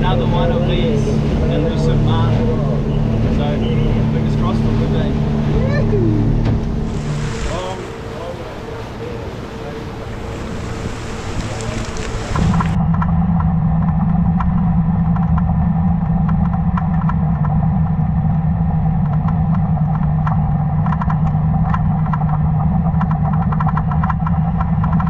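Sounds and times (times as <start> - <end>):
underwater boat engine hum: 0.0 - 25.0.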